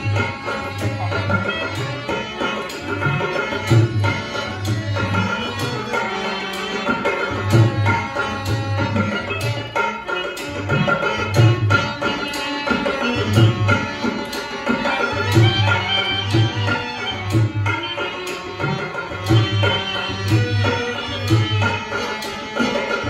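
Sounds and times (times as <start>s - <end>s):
hand drum beats: 0.0s - 6.2s, 6.8s - 23.0s
sustained melody instrument: 0.0s - 23.0s.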